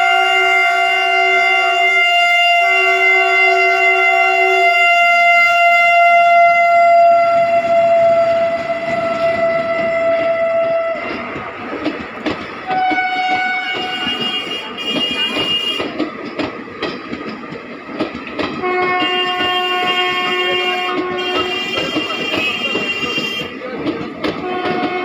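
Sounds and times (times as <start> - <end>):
train horn: 0.0 - 11.4, 12.6 - 16.0, 18.6 - 23.6, 24.3 - 25.0
train wheels rattling over rail joints: 0.0 - 25.0.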